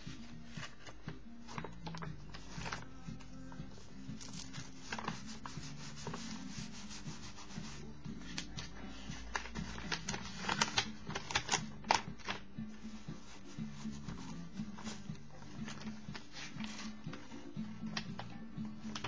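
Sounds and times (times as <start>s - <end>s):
paper rustling: 0.0s - 19.0s.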